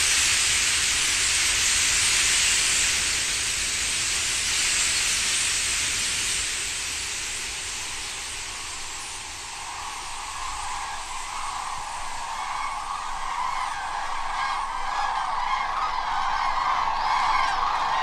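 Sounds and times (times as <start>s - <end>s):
bird flock wingbeats hissing: 0.8s - 17.4s.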